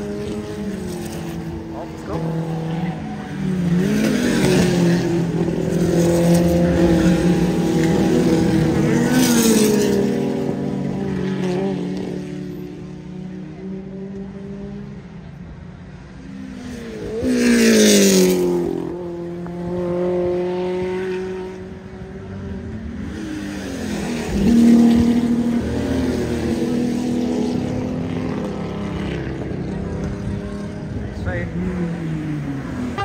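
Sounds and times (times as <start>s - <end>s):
racing engines revving and passing: 0.0s - 33.0s.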